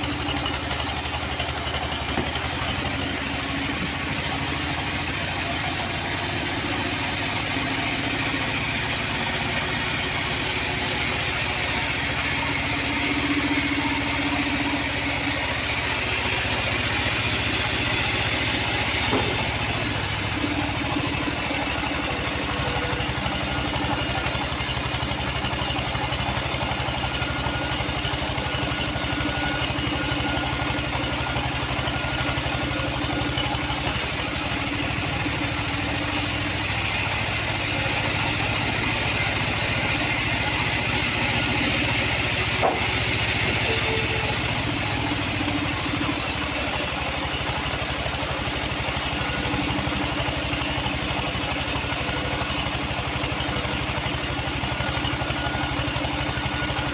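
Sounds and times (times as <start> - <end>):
band sawmill cutting timber: 0.0 - 56.9.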